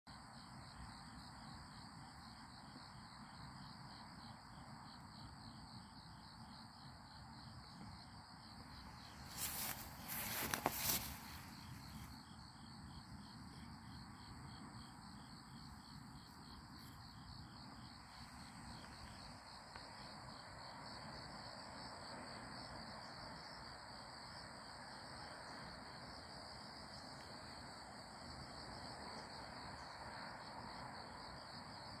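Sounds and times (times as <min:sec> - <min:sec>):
insect pulsed chirping: 0:00.1 - 0:32.0
insects trilling: 0:00.3 - 0:32.0.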